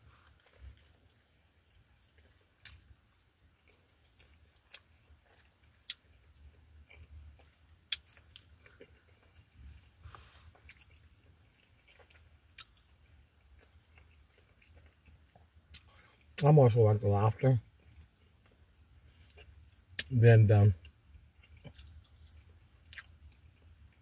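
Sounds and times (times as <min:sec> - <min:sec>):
soft chewing: 0:00.0 - 0:16.4, 0:17.3 - 0:20.1, 0:20.7 - 0:24.0.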